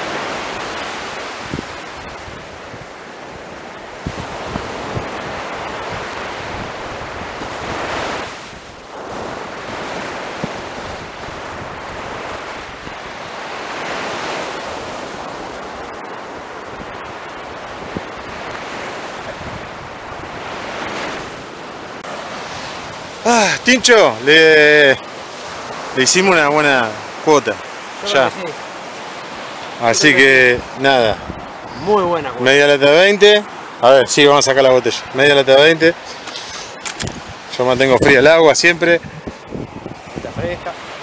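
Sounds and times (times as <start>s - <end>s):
ocean surf breaking on beach: 0.0s - 41.0s.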